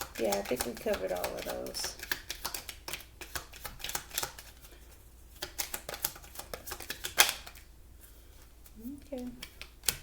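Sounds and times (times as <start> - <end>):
cards shuffling and snapping: 0.0 - 7.7, 9.4 - 10.0.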